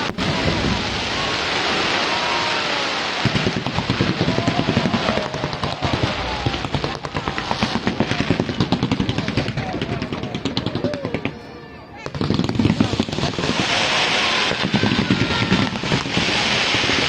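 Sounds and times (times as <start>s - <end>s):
fireworks launching and bursting: 0.0s - 17.0s.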